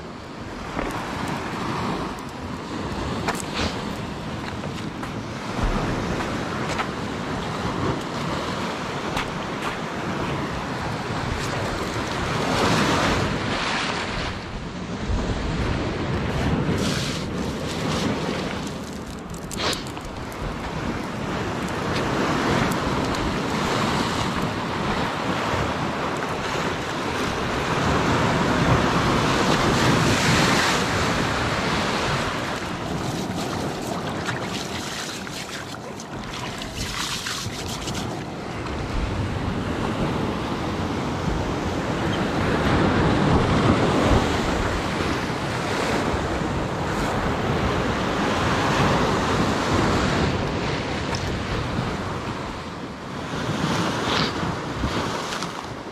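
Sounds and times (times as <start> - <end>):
sea surf breaking on rocks: 0.0 - 55.9
wind buffeting microphone: 0.0 - 55.9.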